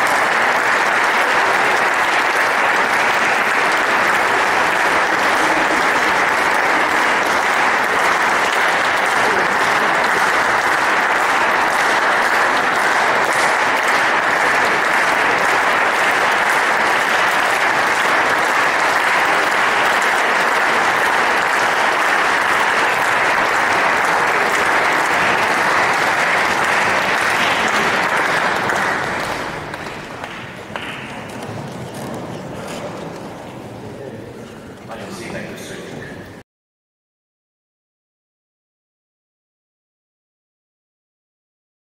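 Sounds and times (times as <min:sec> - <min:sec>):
audience applauding: 0:00.0 - 0:33.8.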